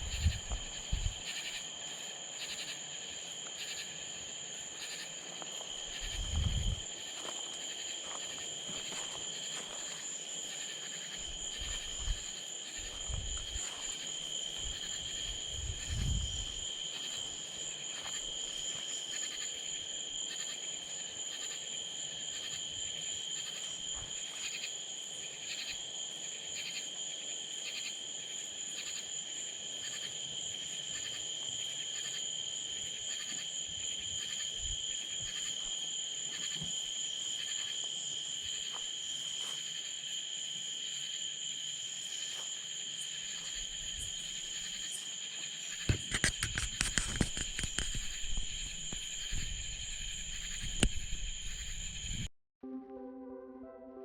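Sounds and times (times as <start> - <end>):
insects trilling: 0.0 - 52.3
rhythmic insect chirp: 0.0 - 52.3.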